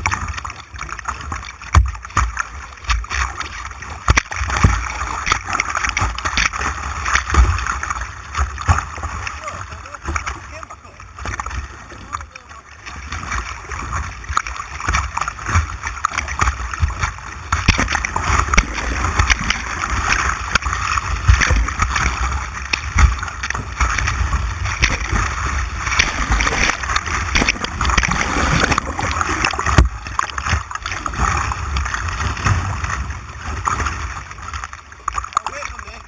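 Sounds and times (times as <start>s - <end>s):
splashes against boat hull: 0.0s - 36.0s
white water rushing: 0.0s - 36.0s.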